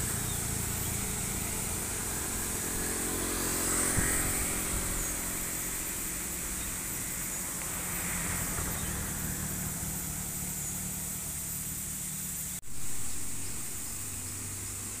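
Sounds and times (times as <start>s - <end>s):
diesel truck engine humming: 0.0s - 15.0s
motorbikes passing: 0.0s - 15.0s.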